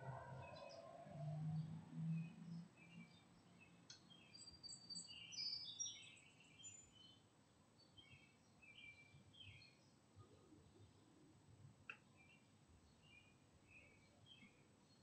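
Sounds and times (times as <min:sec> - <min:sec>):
faint birdsong chirps and whistles: 0:00.0 - 0:11.2, 0:11.9 - 0:15.0.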